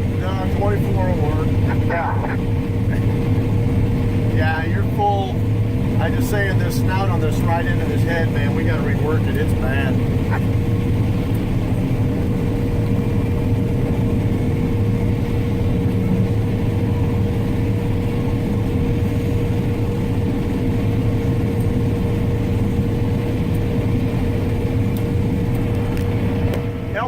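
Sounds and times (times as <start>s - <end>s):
low engine drone: 0.0s - 27.0s
steady machine whine: 0.0s - 27.0s.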